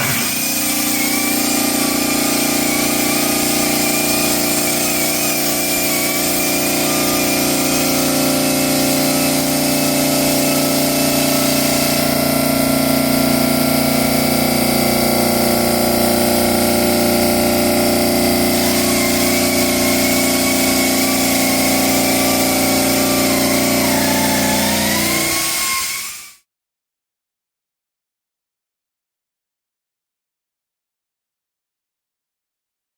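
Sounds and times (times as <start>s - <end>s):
waterjet saw running: 0.0s - 26.4s.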